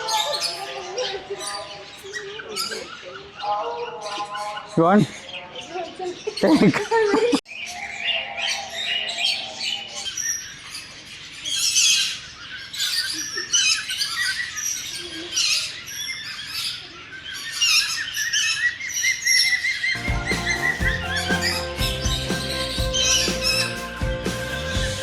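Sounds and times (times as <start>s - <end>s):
parrots chirping and squawking: 0.0s - 25.0s.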